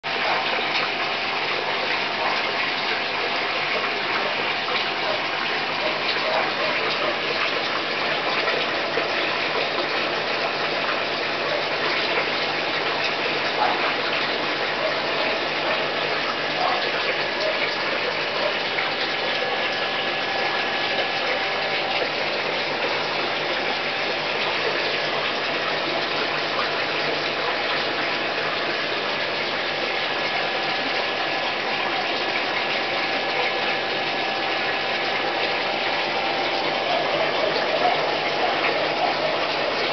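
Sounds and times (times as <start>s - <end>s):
aquarium water rushing: 0.0s - 39.9s.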